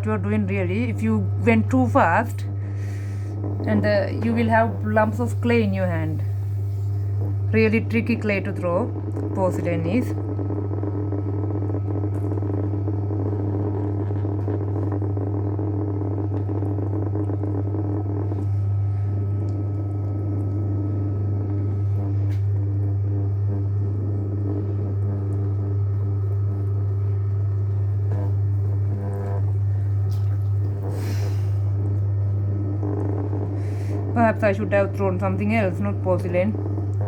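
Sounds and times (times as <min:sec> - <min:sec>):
pottery wheel motor hum: 0:00.0 - 0:37.0.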